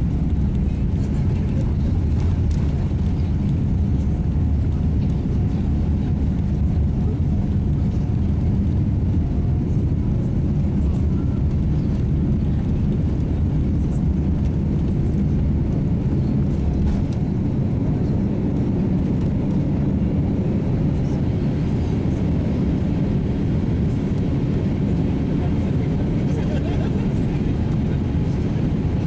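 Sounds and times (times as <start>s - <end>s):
jet engines rumbling at takeoff: 0.0s - 29.0s.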